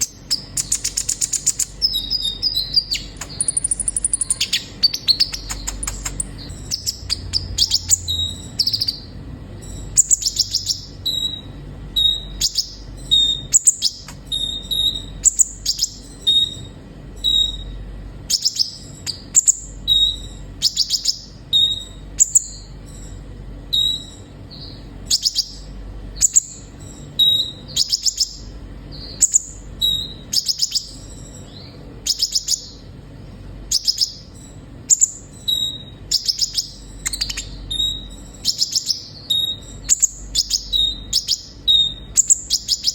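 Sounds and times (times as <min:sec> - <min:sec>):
bird chirping and trilling: 0:00.0 - 0:42.9.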